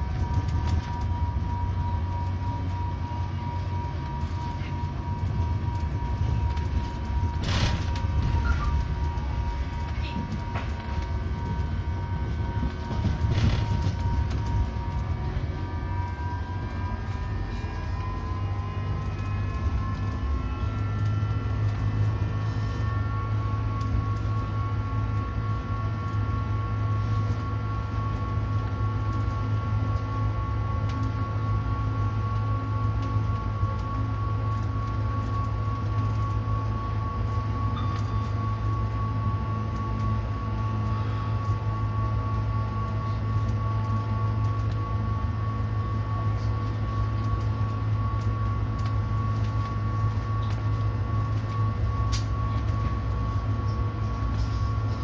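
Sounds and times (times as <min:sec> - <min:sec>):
electric whine: 0:00.0 - 0:55.0
tram wheels rumbling on rail: 0:00.0 - 0:55.0.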